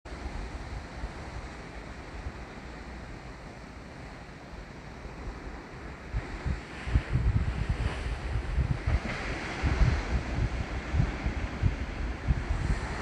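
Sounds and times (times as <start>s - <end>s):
ocean surf: 0.1s - 13.0s
wind blowing over microphone: 0.1s - 13.0s.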